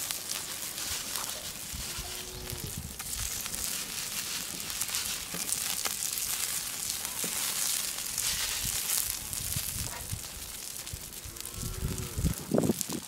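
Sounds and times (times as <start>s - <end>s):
wood fire crackling and hissing: 0.0s - 13.0s.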